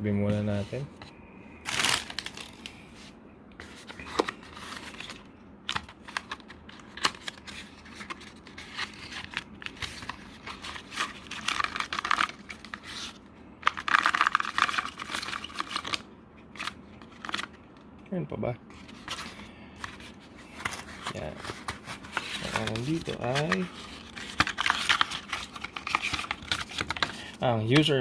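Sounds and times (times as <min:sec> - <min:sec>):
cardboard and paper rustling: 0:00.3 - 0:17.6, 0:18.7 - 0:28.0.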